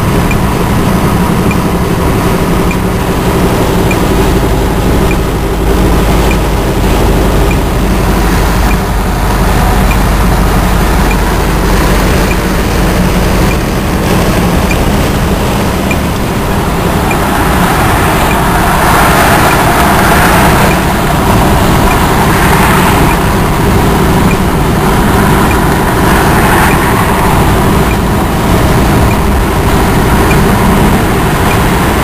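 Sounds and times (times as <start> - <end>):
car road noise from inside: 0.0 - 32.0.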